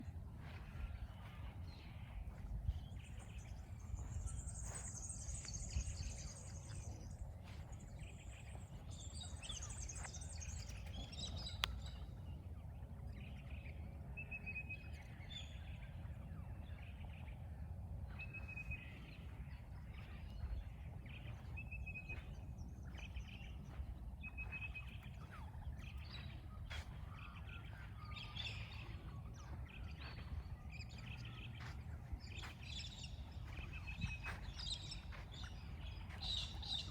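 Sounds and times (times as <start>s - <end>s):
low background rumble: 0.0s - 36.9s
wild birds calling: 0.0s - 36.9s.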